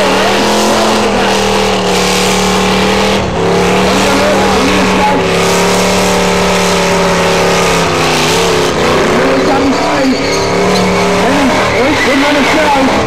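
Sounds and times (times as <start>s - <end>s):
engine revving high: 0.0s - 13.0s.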